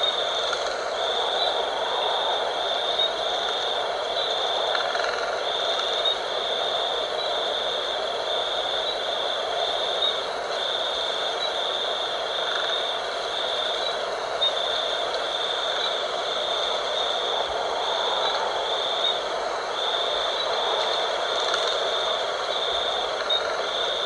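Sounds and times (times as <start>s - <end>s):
high-pitched insect trill: 0.0s - 24.0s
night wind: 0.0s - 24.0s.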